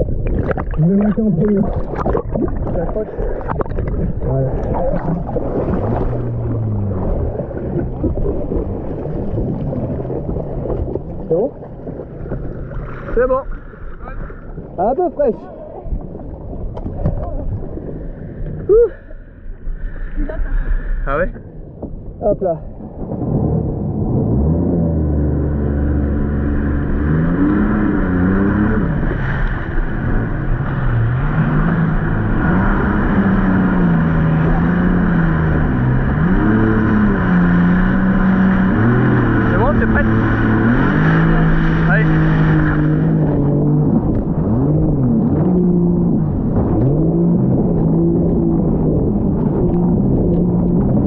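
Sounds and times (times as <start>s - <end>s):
low wavering hum: 0.0s - 51.0s
water sloshing against hull: 0.0s - 51.0s
wind: 0.0s - 51.0s
jet ski engine running: 2.7s - 18.7s, 21.1s - 51.0s.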